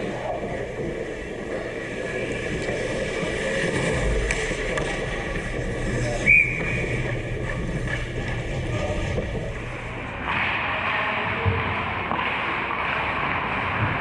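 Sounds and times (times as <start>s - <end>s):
skates scraping on ice: 0.0s - 14.0s
hockey sticks clicking: 1.8s - 9.5s, 10.2s - 14.0s.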